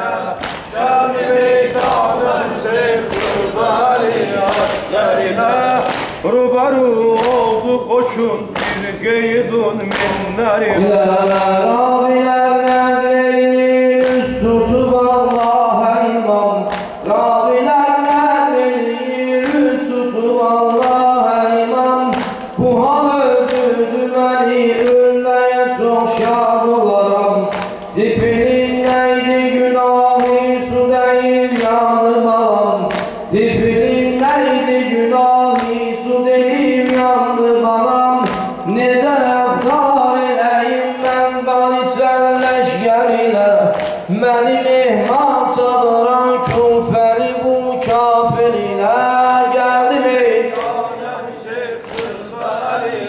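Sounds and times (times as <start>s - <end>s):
man chanting into a microphone: 0.0s - 53.0s.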